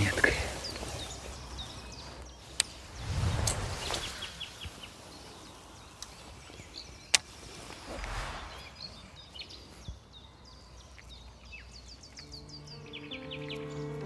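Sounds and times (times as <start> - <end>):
soft rustle: 0.0 - 12.3
light outdoor ambience: 0.0 - 14.0
songbirds chirping: 0.0 - 14.0.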